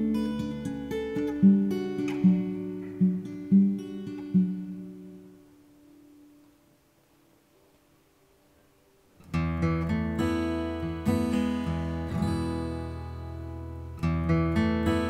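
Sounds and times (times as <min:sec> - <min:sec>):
acoustic guitar strumming chords: 0:00.0 - 0:06.4, 0:09.2 - 0:15.0.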